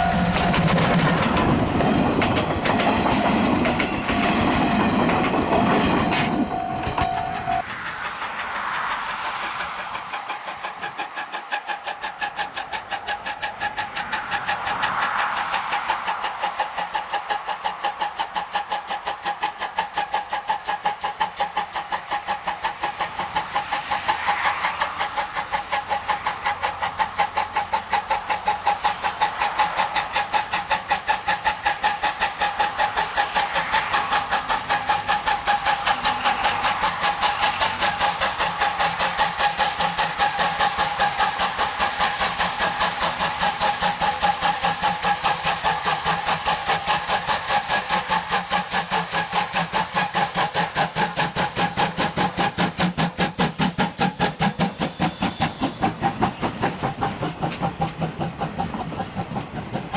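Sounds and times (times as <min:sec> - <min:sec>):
steam hiss: 0:00.0 - 0:59.9
steam locomotive chuffing: 0:00.0 - 0:59.9.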